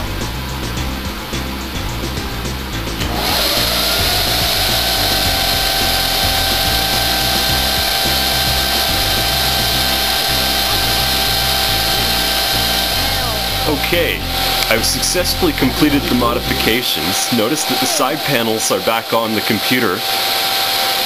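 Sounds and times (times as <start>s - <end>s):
background music: 0.0s - 20.0s
computer cooling fans whining: 0.0s - 21.0s.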